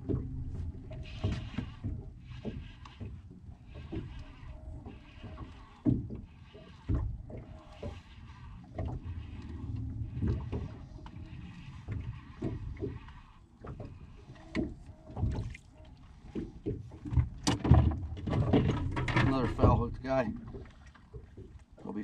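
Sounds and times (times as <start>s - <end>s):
water slapping boat hull: 0.0s - 22.0s.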